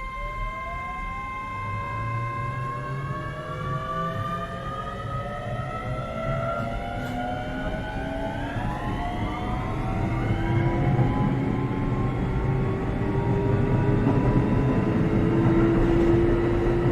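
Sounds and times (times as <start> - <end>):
train motor whine rising: 0.0 - 16.9
wheels rumbling on track: 1.5 - 16.9.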